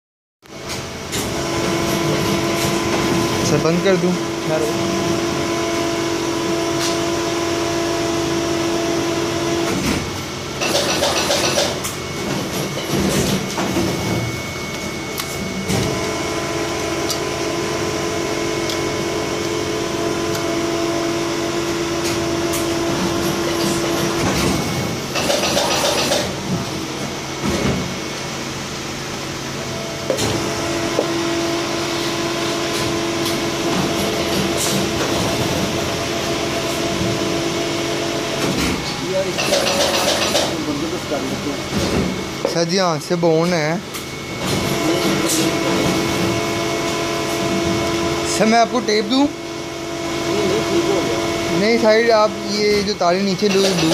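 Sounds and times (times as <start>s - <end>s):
machine hum: 0.4s - 53.9s.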